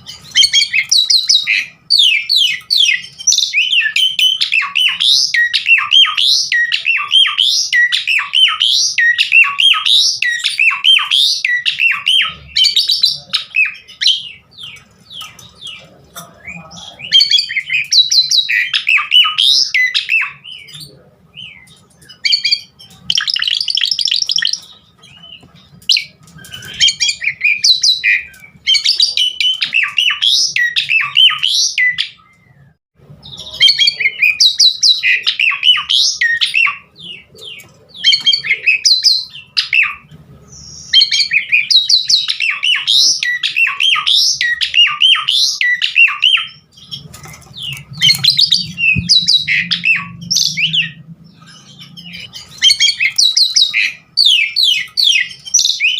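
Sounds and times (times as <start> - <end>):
starling chattering and whistling: 0.0 - 55.9.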